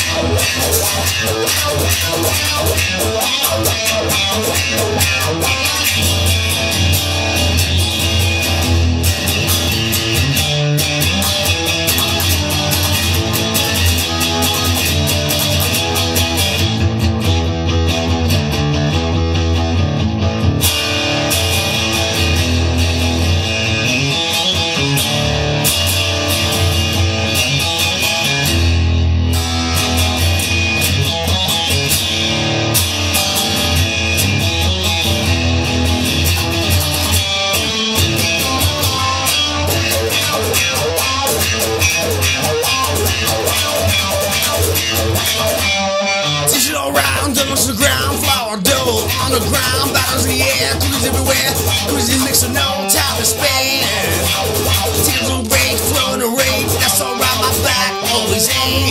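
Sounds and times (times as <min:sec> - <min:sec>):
guitar music with bass and beat: 0:00.0 - 0:58.9.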